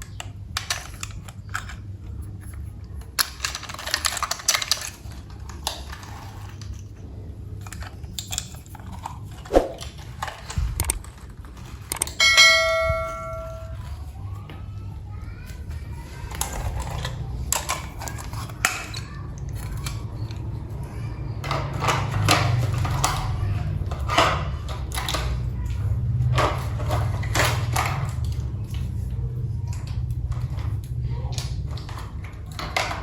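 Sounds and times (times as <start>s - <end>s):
plastic clicks and clacks: 0.0s - 12.2s, 15.5s - 33.0s.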